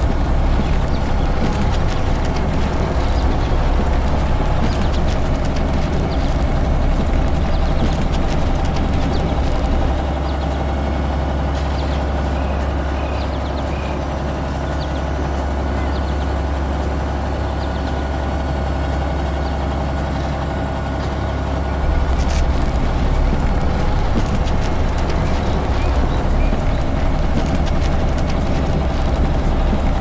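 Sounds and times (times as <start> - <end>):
heavy vehicle engine rumbling: 0.0 - 13.6, 18.4 - 30.0.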